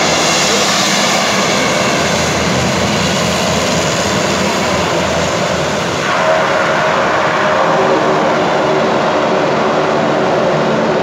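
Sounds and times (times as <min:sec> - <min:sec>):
engine whine: 0:00.0 - 0:11.0
turboprop engines roaring: 0:00.0 - 0:11.0.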